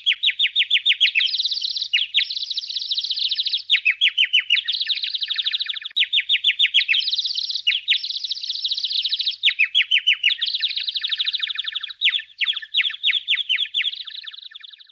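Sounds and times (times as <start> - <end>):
birds chirping in fast trills: 0.0 - 14.9.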